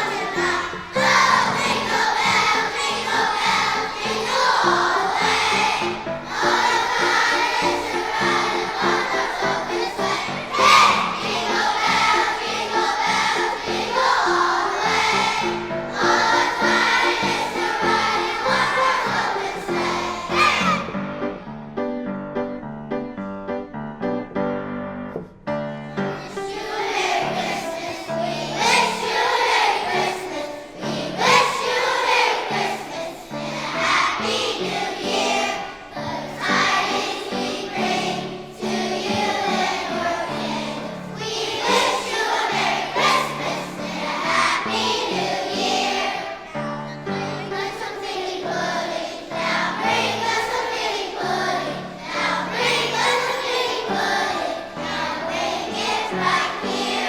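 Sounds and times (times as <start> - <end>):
children's chorus singing: 0.0 - 21.5, 25.8 - 57.0
instrumental accompaniment: 0.0 - 46.2.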